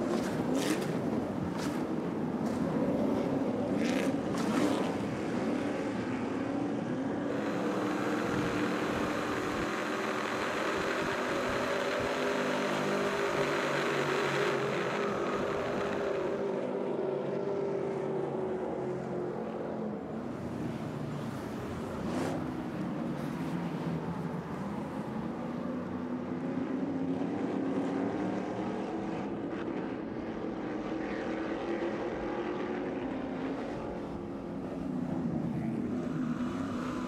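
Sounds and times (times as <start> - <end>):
race truck engines revving: 0.0 - 37.0.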